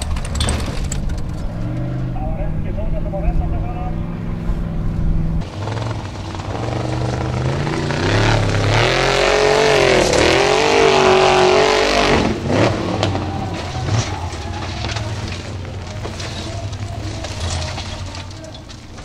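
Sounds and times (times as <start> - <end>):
buggy engine revving hard: 0.0 - 19.0.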